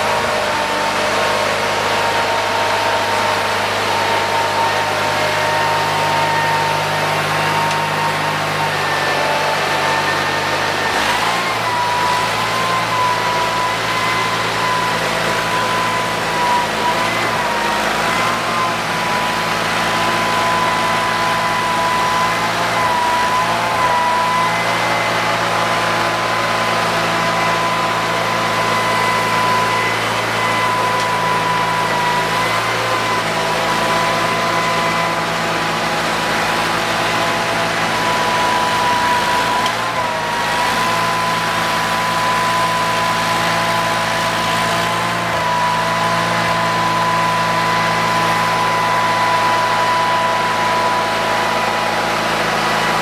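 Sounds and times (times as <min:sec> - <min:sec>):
garden tractor engine running: 0:00.0 - 0:53.0.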